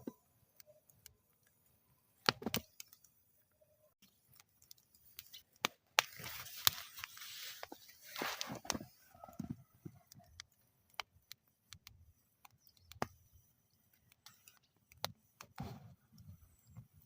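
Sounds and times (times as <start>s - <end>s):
wood fire crackling and popping: 0.0s - 3.2s, 4.0s - 17.0s.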